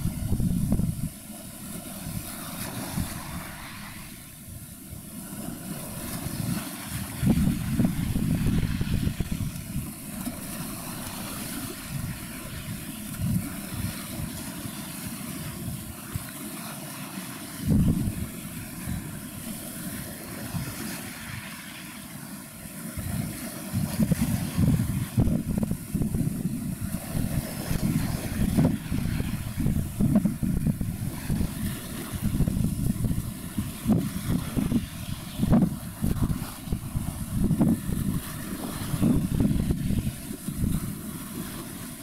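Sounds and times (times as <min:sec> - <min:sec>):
wind rumbling on microphone: 0:00.0 - 0:42.0.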